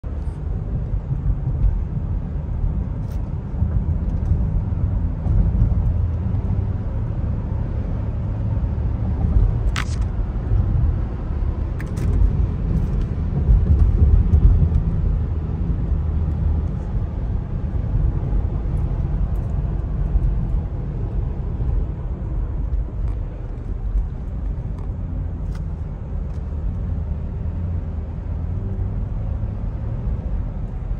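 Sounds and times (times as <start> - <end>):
car cabin road rumble: 0.0 - 30.9.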